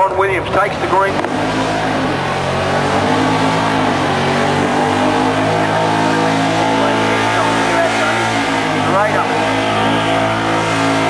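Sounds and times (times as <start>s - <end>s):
engine at high revs: 0.1s - 11.0s
tyres spinning: 0.4s - 11.0s.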